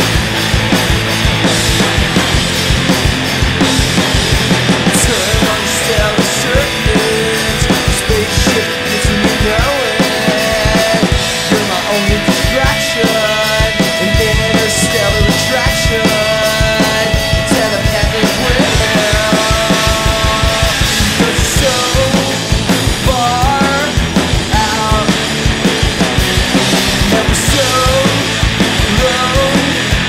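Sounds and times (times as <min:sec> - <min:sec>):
drum kit beat: 0:00.0 - 0:30.0
electric bass: 0:00.0 - 0:30.0
electric guitar: 0:00.0 - 0:30.0.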